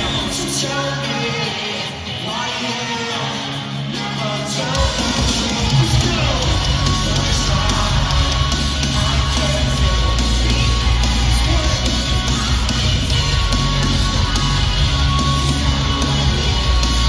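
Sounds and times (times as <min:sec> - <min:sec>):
heavy drums and bass: 0:00.0 - 0:01.1, 0:03.8 - 0:17.0
live rock band playing: 0:00.0 - 0:17.0.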